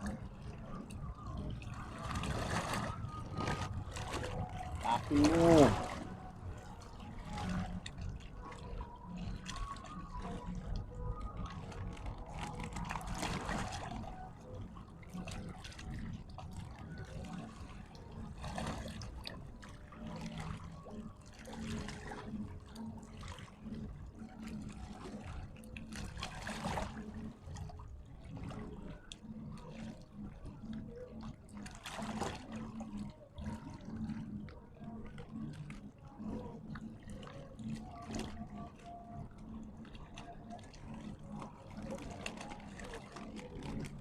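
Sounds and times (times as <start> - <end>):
water sloshing and trickling: 0.0 - 44.0.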